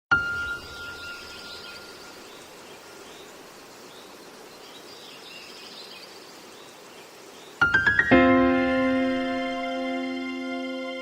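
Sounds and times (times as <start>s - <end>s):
steady hiss: 0.2s - 11.0s.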